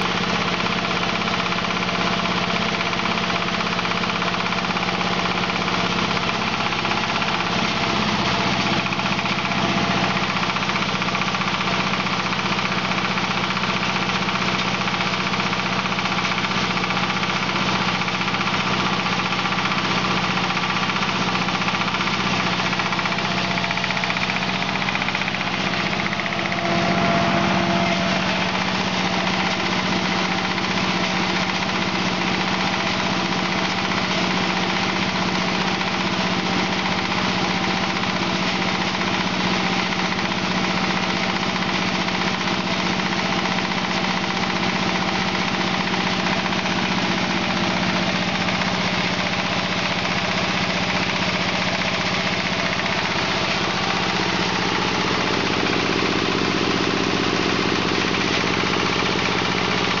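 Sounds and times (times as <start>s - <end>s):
diesel engine drone: 0.0s - 60.0s
hammer mill grinding wood chips: 0.0s - 60.0s.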